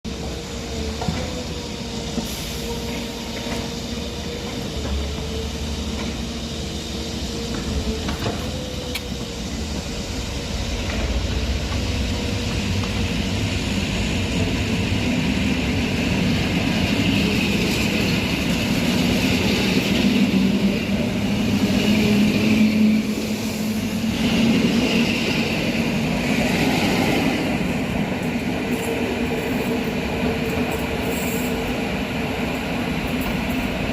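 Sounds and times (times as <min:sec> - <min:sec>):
train running and wheel noise: 0:00.1 - 0:33.9.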